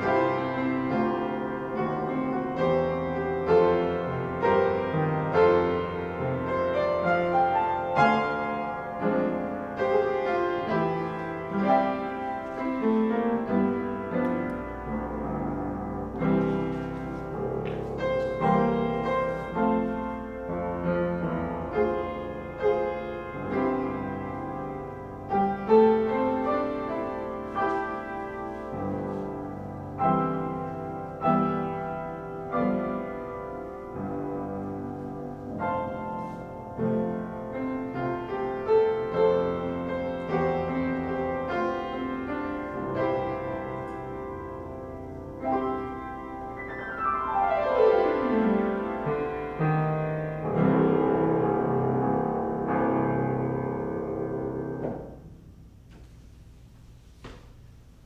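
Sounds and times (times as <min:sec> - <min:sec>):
solo piano piece: 0:00.0 - 0:58.0.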